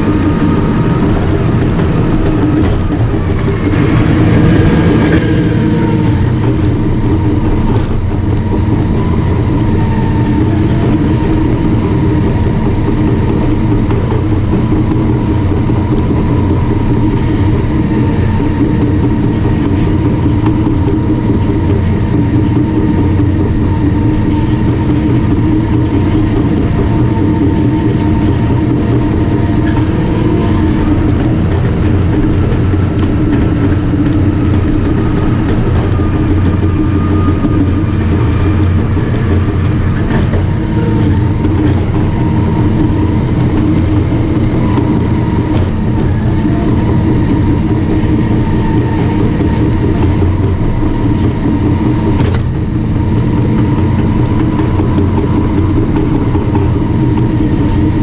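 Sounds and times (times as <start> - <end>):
bulldozer diesel engine humming: 0.0 - 58.0
thin steady whine: 0.0 - 58.0.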